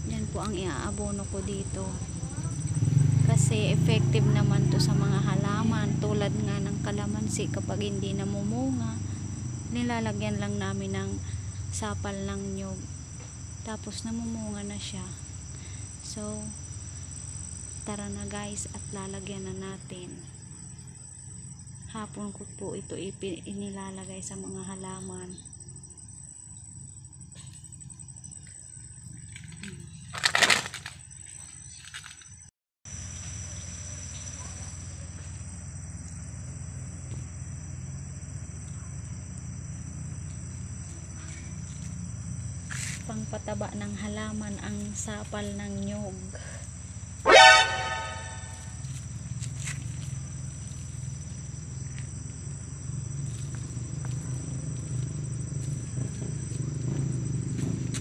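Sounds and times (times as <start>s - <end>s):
low hum: 0.0s - 32.2s, 32.9s - 58.0s
night insect chorus: 0.0s - 58.0s.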